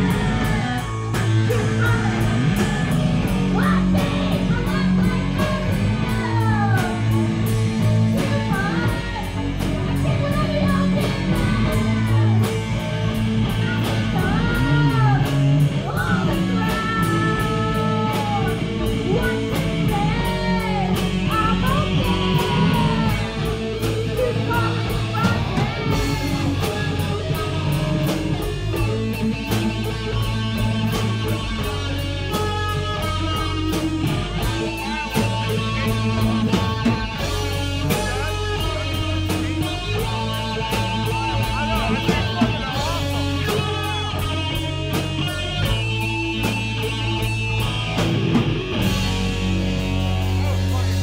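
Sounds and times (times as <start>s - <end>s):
bass guitar: 0.0s - 51.0s
electric guitar: 0.0s - 51.0s.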